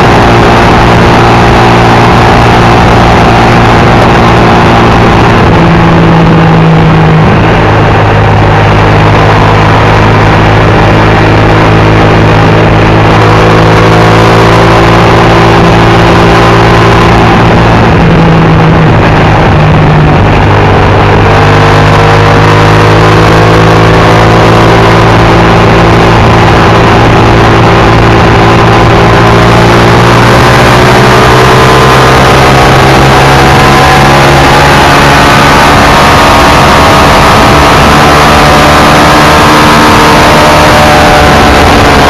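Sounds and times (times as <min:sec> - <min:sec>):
motorcycle engine accelerating: 0:00.0 - 0:42.0
wind rush: 0:00.0 - 0:42.0.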